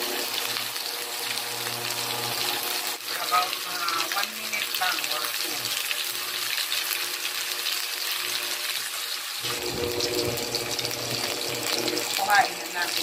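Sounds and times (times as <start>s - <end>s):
shrimp sizzling in hot oil: 0.0s - 13.0s.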